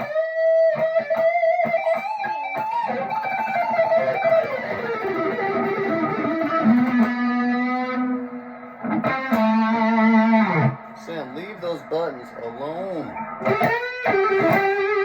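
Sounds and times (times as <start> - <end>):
electric guitar lead: 0.0 - 15.0.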